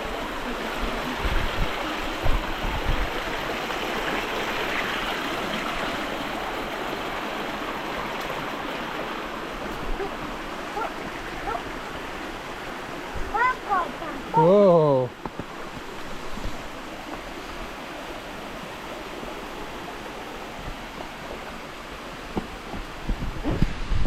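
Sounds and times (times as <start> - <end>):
stream and waterfalls rushing: 0.0 - 24.0.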